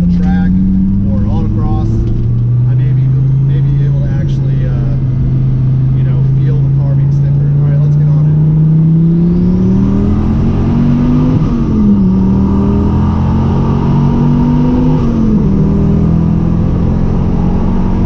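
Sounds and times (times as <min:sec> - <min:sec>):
car engine accelerating through gears: 0:00.0 - 0:18.0.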